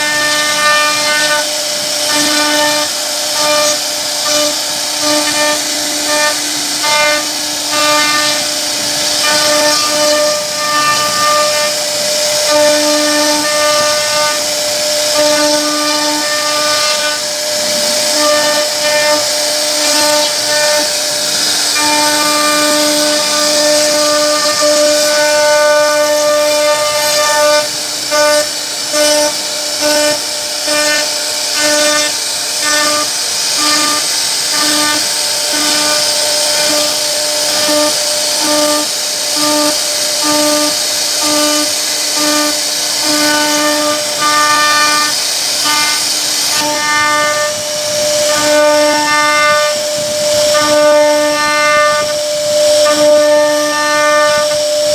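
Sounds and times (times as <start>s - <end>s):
cutter hiss: 0.0s - 54.9s
router spindle whine: 0.0s - 54.9s.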